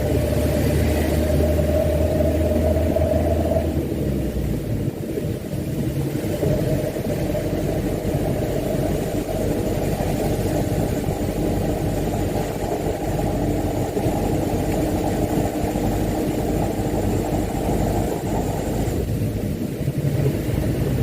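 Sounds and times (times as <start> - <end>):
diesel truck engine droning: 0.0 - 21.0.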